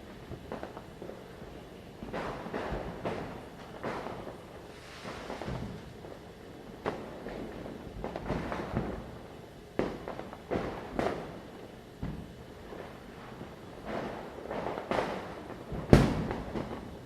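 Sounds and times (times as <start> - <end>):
crackle of bursts: 0.0 - 17.0
firecrackers banging: 0.0 - 17.0.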